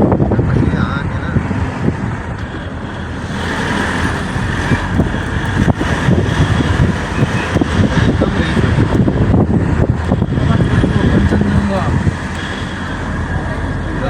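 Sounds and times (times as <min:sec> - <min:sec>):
moving vehicle noise: 0:00.0 - 0:14.0.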